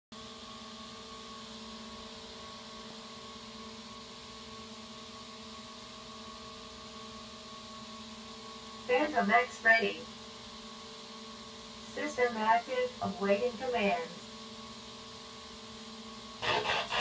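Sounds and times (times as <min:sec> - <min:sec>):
electrical hum: 0:00.2 - 0:17.0.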